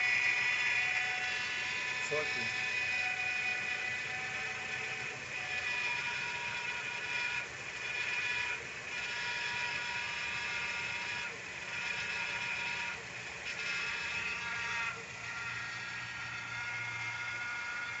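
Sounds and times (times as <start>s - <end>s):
engine high-pitched whine: 0.0s - 18.0s.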